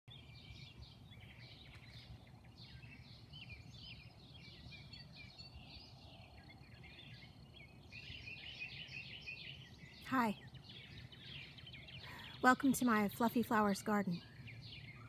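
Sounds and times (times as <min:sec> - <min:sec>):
songbirds chirping and singing: 0:00.1 - 0:15.0.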